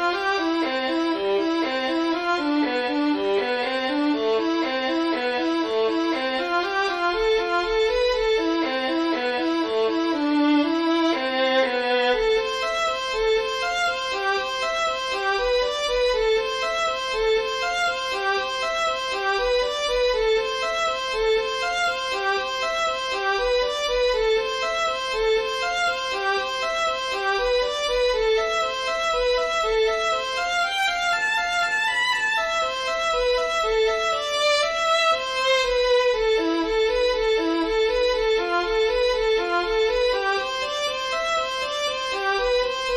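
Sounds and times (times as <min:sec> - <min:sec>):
arpeggio melody on one instrument: 0:00.0 - 0:42.9.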